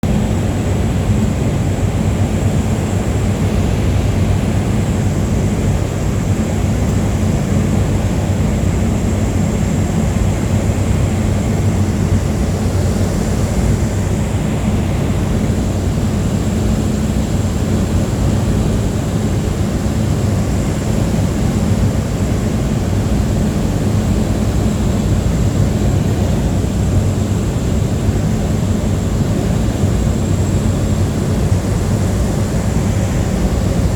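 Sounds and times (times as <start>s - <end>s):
light aircraft engine drone: 0.0s - 33.9s.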